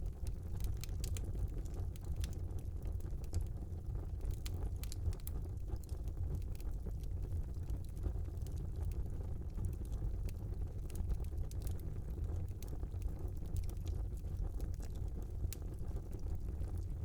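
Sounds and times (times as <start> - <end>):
fire crackles and pops: 0.0 - 17.0
fire rumbling: 0.0 - 17.0.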